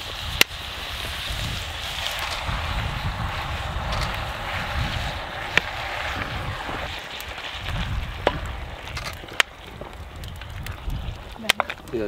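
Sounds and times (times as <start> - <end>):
campfire sizzling hiss: 0.0 - 12.0
sharp fire pops: 0.0 - 12.0.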